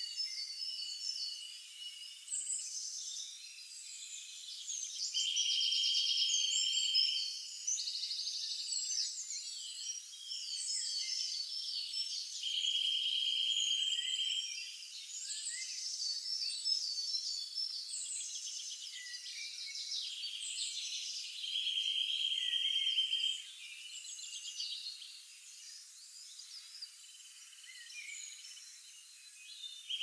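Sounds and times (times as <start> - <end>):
wild birds chirping and singing: 0.0 - 30.0.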